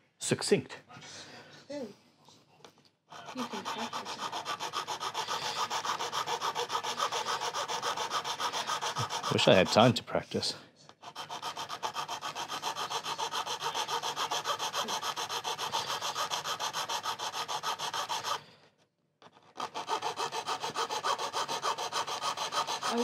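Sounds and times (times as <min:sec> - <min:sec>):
hand tool strokes on wood: 0:03.1 - 0:18.5, 0:19.6 - 0:23.0.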